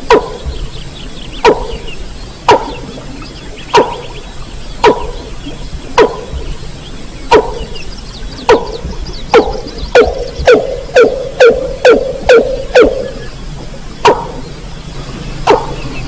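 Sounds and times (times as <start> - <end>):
faint high bird chattering: 0.1 - 14.6.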